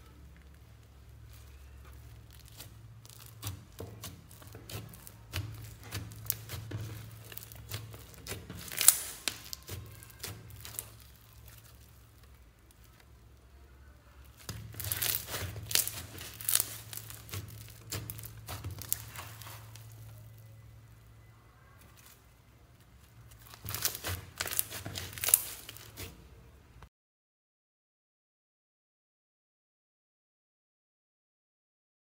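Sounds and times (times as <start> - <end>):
crunchy slime crackling and popping: 0.0 - 26.4.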